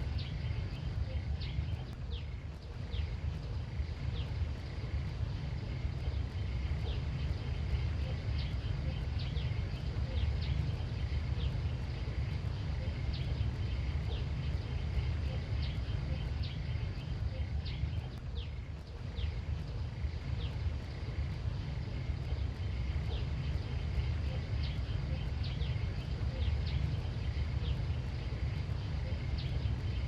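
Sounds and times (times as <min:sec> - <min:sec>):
high insect drone: 0:00.0 - 0:30.0
steady low rumble: 0:00.0 - 0:30.0.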